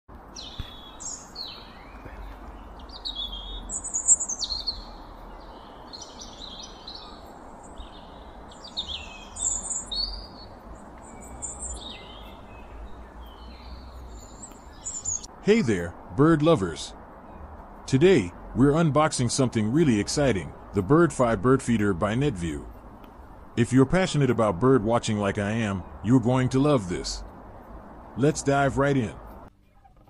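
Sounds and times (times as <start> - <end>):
songbirds singing and chirping: 0.1 - 30.0.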